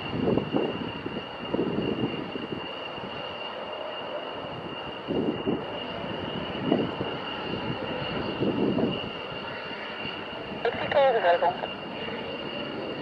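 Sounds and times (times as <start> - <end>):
distant jet engine rumbling: 0.0 - 13.0.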